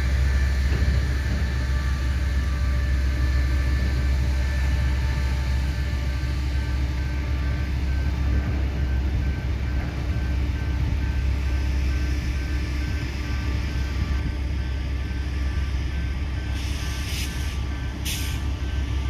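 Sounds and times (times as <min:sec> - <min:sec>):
steel wheels rumbling on rail: 0:00.0 - 0:19.0.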